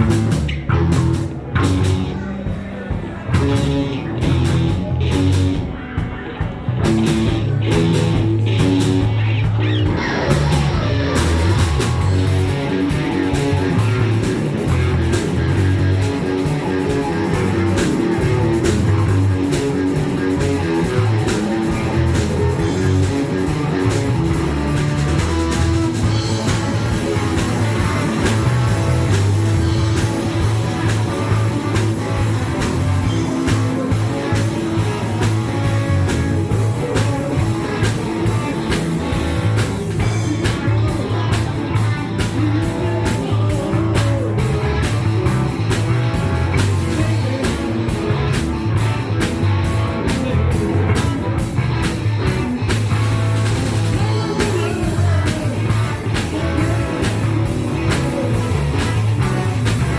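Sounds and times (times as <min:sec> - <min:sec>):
drum beats: 0:00.0 - 0:59.9
live rock band playing: 0:00.0 - 0:59.9.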